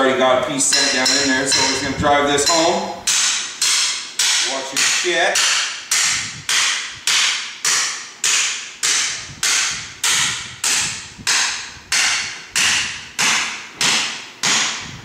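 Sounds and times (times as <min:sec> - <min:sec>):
hammer striking steel tube: 0:00.7 - 0:14.9.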